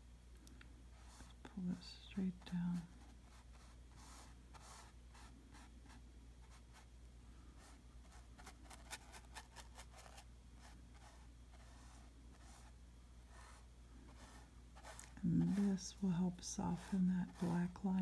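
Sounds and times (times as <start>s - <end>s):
paintbrush scratching on canvas: 2.4s - 6.9s, 7.6s - 18.0s.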